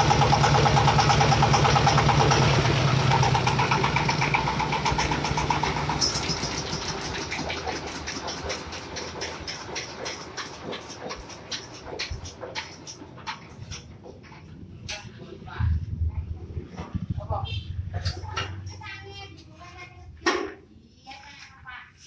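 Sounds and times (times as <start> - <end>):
diesel engine running: 0.0 - 19.4.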